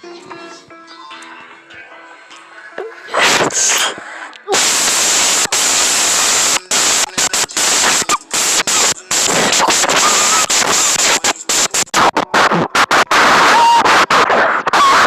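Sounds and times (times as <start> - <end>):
harsh static noise: 2.5 - 15.0.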